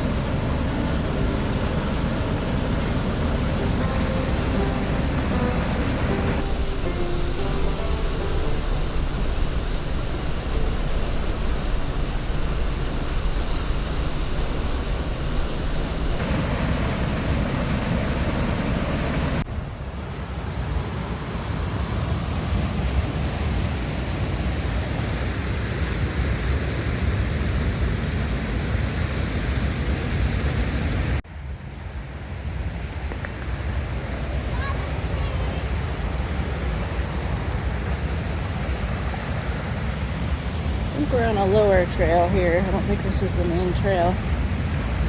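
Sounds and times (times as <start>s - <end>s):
river water rushing: 0.0s - 8.6s, 16.2s - 45.0s.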